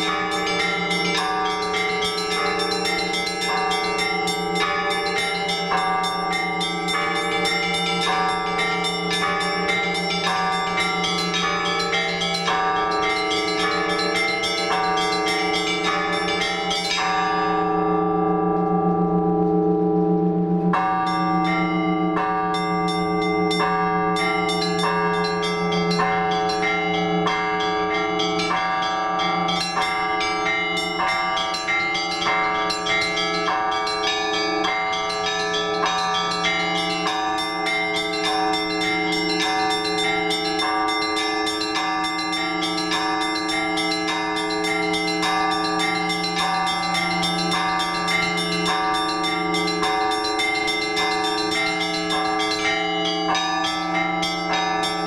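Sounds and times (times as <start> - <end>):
small bells struck quickly: 0.0 - 17.4, 20.8 - 55.0
hum of large bells: 0.0 - 55.0.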